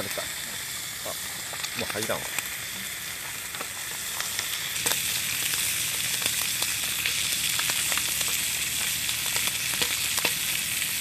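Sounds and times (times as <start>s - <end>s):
bacon and eggs sizzling: 0.0s - 11.0s.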